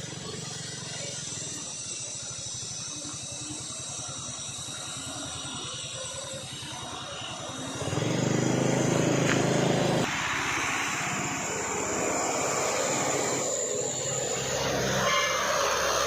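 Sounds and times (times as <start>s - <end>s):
truck engine labouring: 0.0s - 16.0s.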